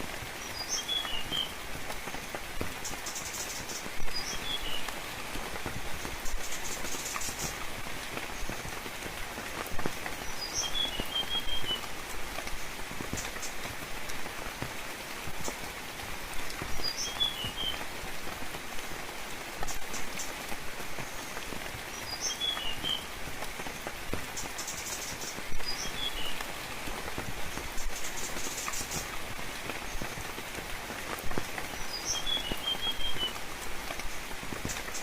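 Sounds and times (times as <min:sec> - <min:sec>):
raindrops ticking: 0:00.0 - 0:35.0
steady rain: 0:00.0 - 0:35.0.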